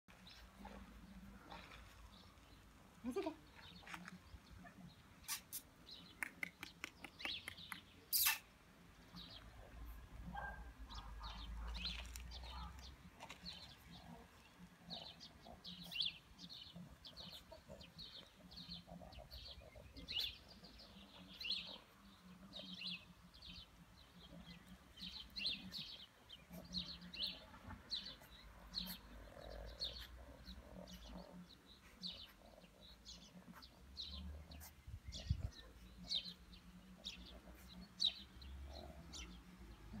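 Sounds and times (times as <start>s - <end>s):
small birds chirping: 0.1s - 40.0s.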